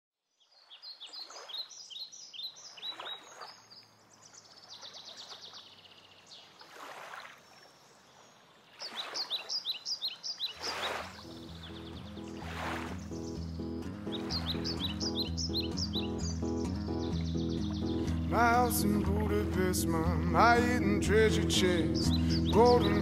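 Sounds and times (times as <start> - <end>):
songbird chirping and trilling: 0.3 - 6.8, 7.4 - 23.0.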